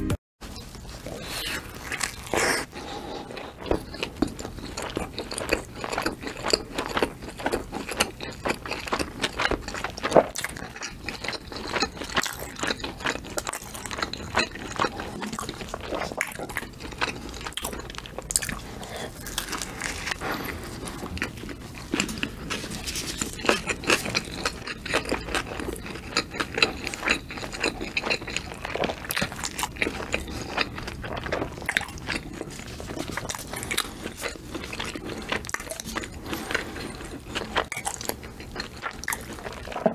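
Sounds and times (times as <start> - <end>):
biting and chewing: 0.5 - 39.9.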